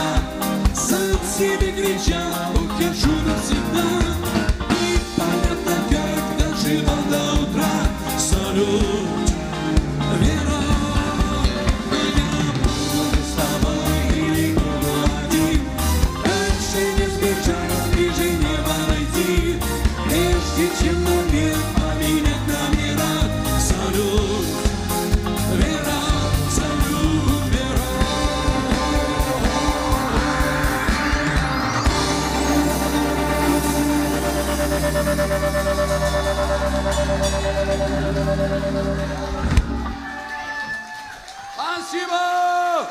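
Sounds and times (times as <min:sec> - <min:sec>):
drum kit beat: 0:00.0 - 0:40.0
keyboards: 0:00.0 - 0:40.6
electric guitar: 0:00.0 - 0:41.5
lead singer: 0:00.0 - 0:42.9
live pop-rock band: 0:00.0 - 0:42.9.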